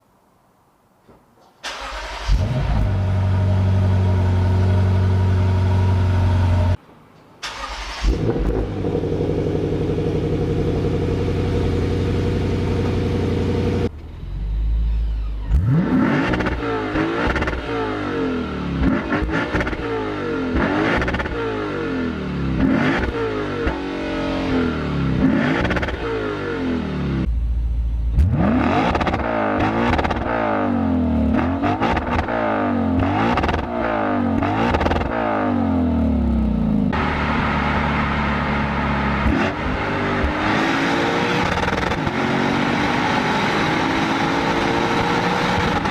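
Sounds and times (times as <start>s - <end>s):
car exhaust idling and revving: 2.3s - 6.8s, 8.1s - 45.9s.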